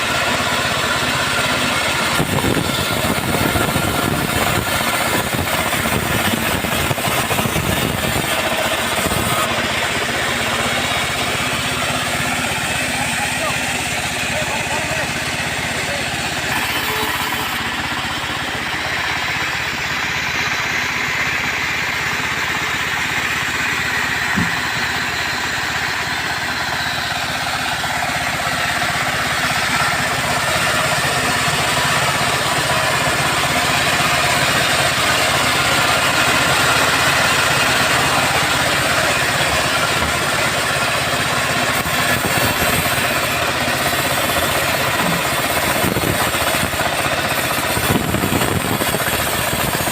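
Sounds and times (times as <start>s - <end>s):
sawmill engine drone: 0.0s - 49.9s.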